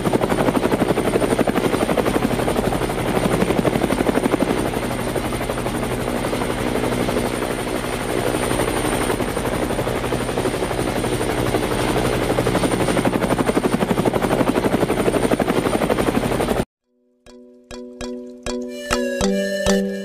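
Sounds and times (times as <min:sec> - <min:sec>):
helicopter rotor chopping: 0:00.0 - 0:16.7.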